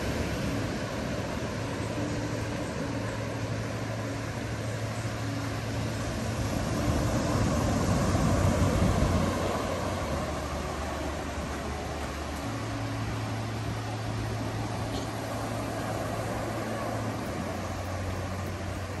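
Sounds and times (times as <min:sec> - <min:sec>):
ocean surf washing: 0:00.0 - 0:19.0
wind on microphone: 0:00.0 - 0:19.0.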